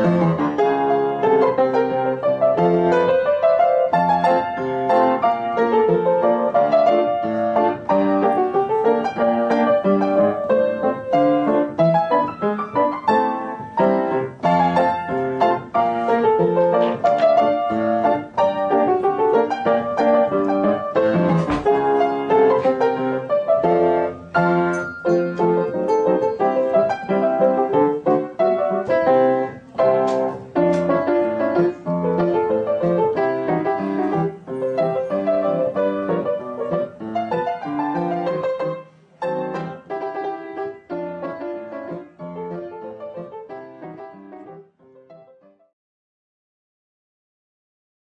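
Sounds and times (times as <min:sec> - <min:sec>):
solo piano music: 0:00.0 - 0:45.7.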